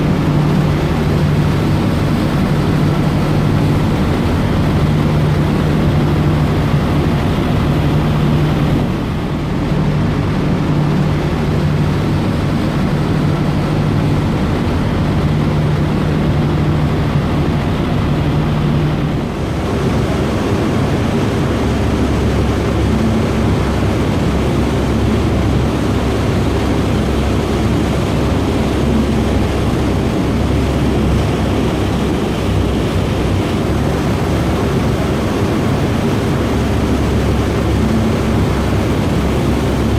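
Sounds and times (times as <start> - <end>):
ferry engines droning: 0.0 - 39.9
rushing water: 0.0 - 39.9
wind: 0.0 - 39.9.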